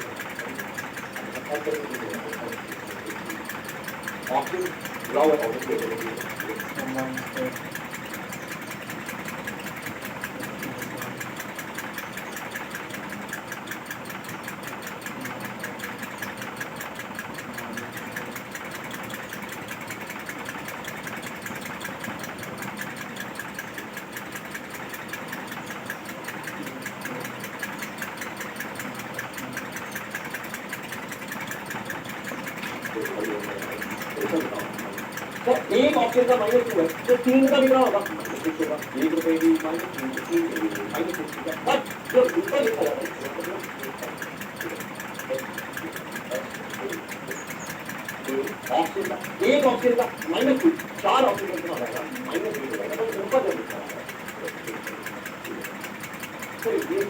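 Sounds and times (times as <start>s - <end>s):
machine clattering: 0.0s - 57.0s.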